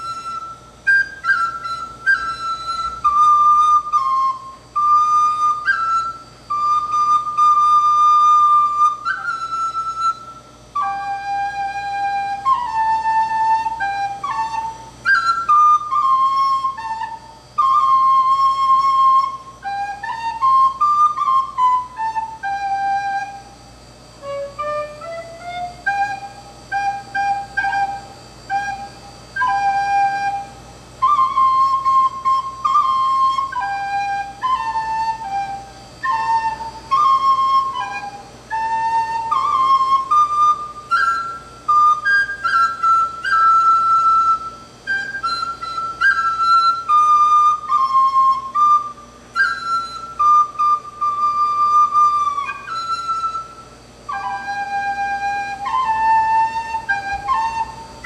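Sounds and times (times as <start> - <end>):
slow flute melody: 0.0 - 58.0.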